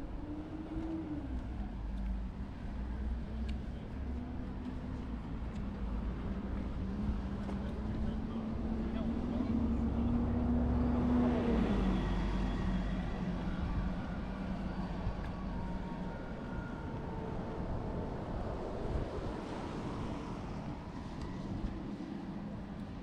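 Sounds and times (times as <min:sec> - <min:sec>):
street traffic rumble: 0:00.0 - 0:23.0.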